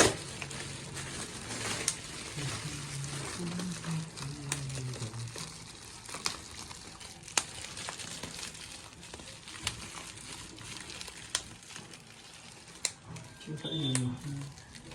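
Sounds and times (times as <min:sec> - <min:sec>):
faint crinkling: 0:00.0 - 0:14.9.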